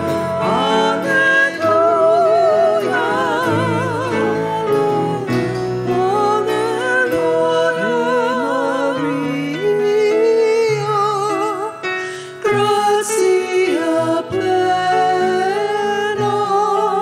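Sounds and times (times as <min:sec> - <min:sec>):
person singing a hymn: 0:00.0 - 0:17.0
piano accompaniment: 0:00.0 - 0:17.0.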